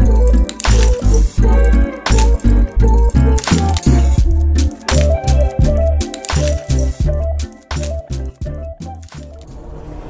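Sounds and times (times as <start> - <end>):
music with deep bass beat: 0.0 - 9.4.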